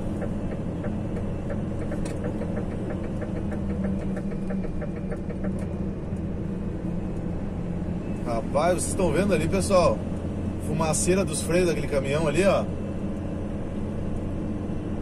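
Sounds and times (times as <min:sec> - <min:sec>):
truck engine drone in cab: 0:00.0 - 0:15.0.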